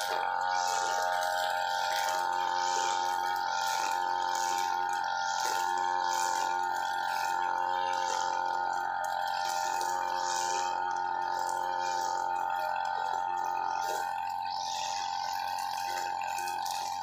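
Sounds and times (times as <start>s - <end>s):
brush cutter whining: 0.0s - 17.0s.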